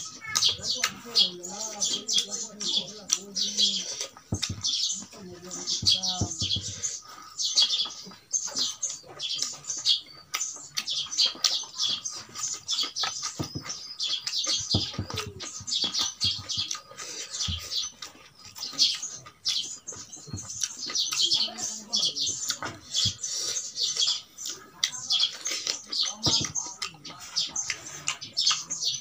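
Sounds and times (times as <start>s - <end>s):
person chewing and lip-smacking: 0.0s - 5.0s, 6.6s - 21.6s, 22.3s - 29.0s.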